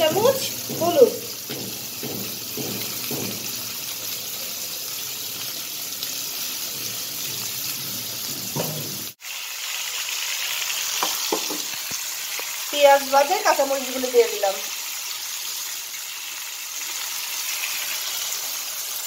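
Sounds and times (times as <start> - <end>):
vegetables frying in hot oil: 0.0 - 19.0.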